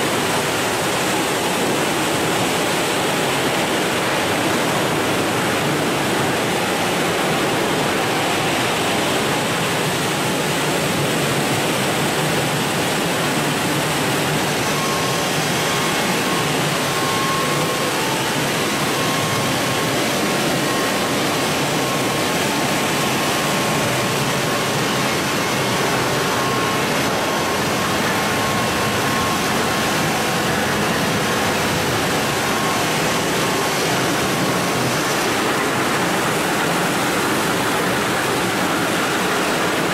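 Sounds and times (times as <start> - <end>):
machine drone: 0.0 - 39.9
water spraying and streaming: 0.0 - 39.9.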